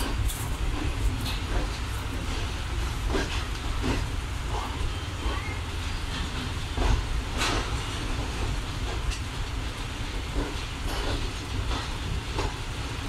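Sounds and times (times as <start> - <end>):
train coach rumbling: 0.0 - 13.0.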